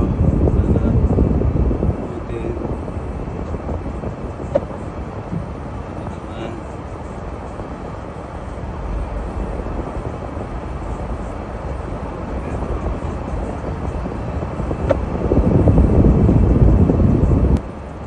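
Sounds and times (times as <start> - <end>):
vehicle driving rumble and hiss: 0.0 - 18.0.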